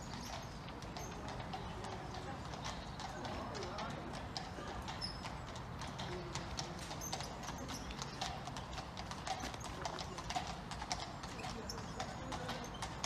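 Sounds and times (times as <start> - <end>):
horse hooves clip-clopping: 0.0 - 13.0.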